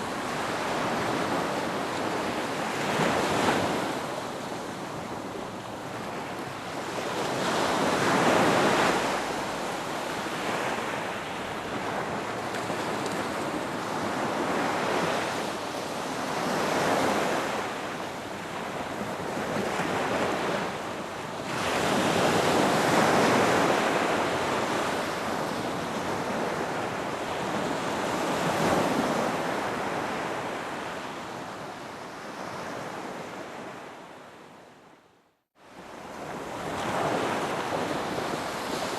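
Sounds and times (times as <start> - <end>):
ocean surf breaking on a beach: 0.0 - 34.4, 35.6 - 38.9.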